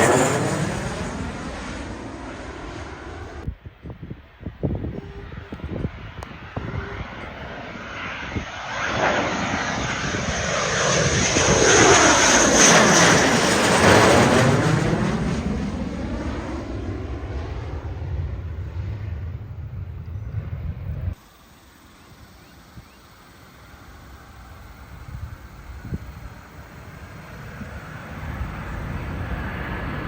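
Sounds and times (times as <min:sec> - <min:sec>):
fighter jet flying past: 0:00.0 - 0:03.5, 0:04.2 - 0:30.0.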